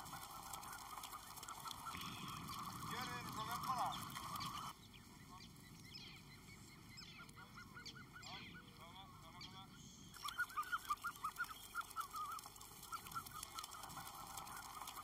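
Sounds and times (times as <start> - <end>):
ducks calling: 0.0 - 15.0.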